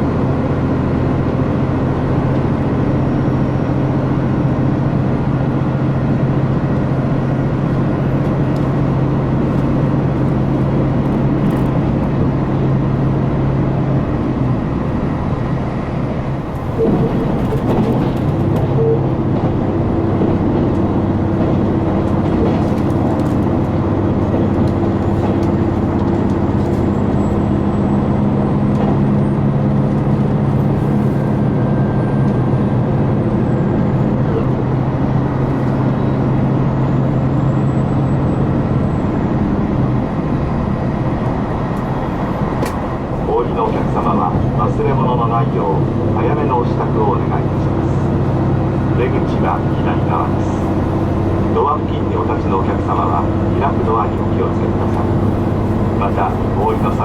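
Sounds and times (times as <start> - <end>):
train diesel engine drone: 0.0 - 57.0.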